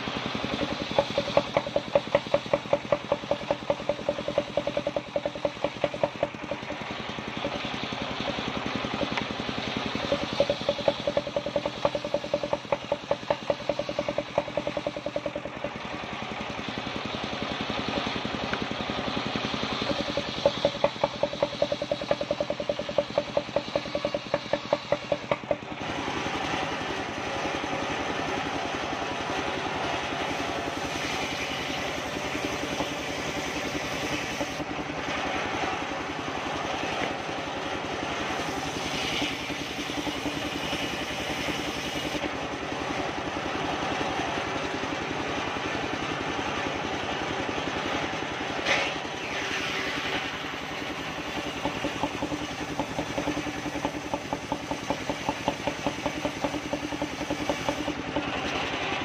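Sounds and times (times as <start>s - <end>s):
engine running with rapid beat: 0.0s - 59.0s.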